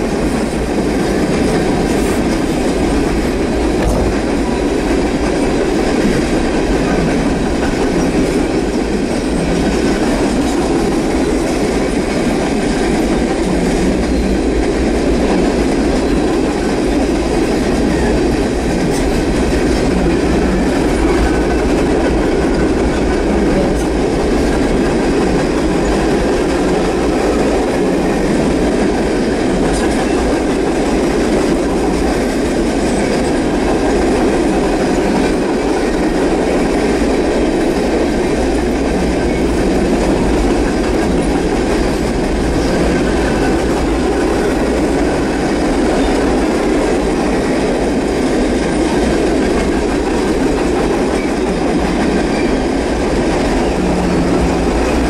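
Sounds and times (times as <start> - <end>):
freight train cars rumbling: 0.0 - 55.0.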